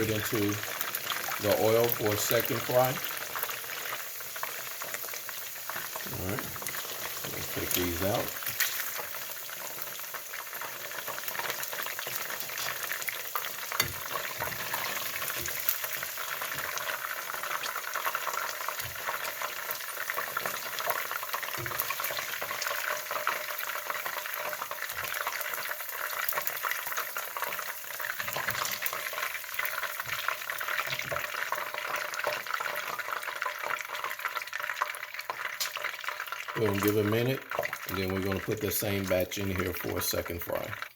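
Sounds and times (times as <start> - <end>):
chicken frying in hot oil: 0.0 - 40.9.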